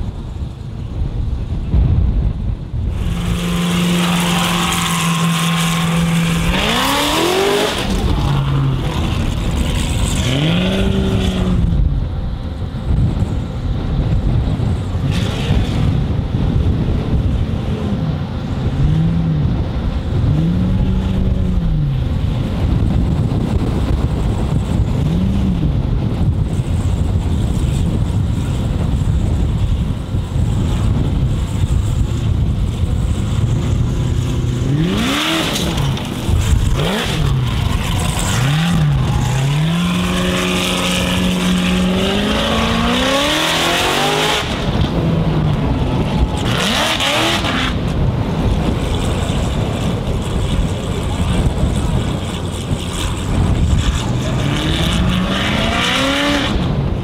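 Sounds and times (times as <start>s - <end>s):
low rushing noise: 0.0s - 57.0s
race car engine revving: 2.9s - 25.8s, 30.4s - 57.0s.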